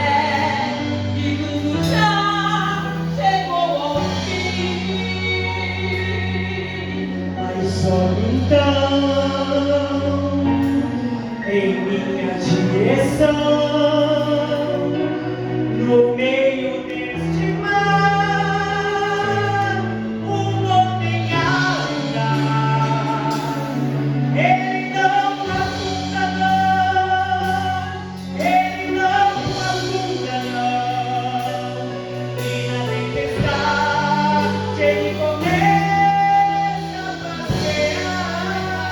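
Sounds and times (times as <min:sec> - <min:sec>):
women singing gospel song: 0:00.0 - 0:09.7, 0:14.8 - 0:38.9
instrumental backing: 0:00.0 - 0:38.9
long held bass notes: 0:00.0 - 0:38.9.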